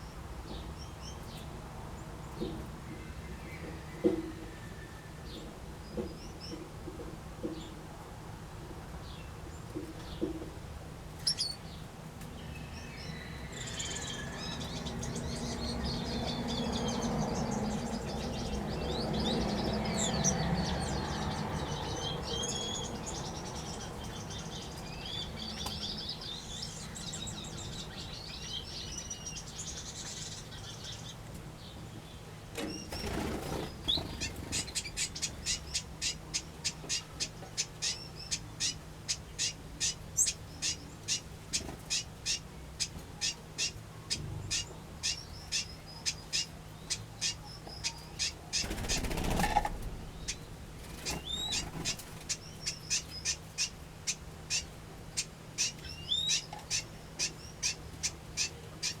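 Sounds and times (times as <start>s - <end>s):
small birds chirping: 9.0s - 59.0s.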